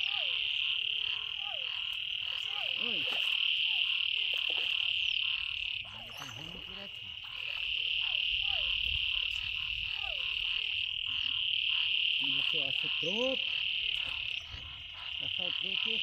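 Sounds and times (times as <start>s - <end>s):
chorus of frogs: 0.0s - 16.0s
short falling frog calls: 0.0s - 16.0s
sloshing of muddy water: 0.0s - 16.0s.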